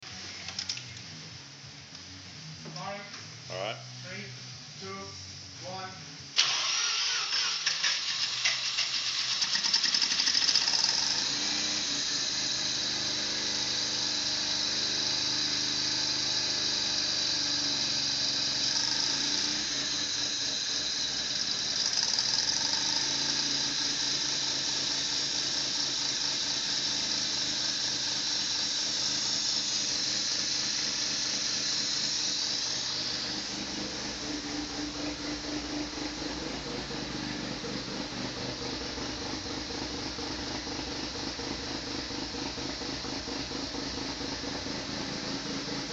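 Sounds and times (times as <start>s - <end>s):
rotary engine idling: 6.4s - 45.9s.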